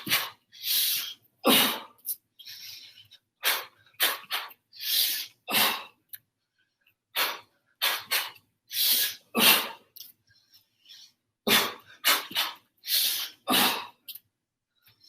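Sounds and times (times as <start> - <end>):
person's sharp forceful breaths: 0.0 - 6.0, 6.8 - 14.2.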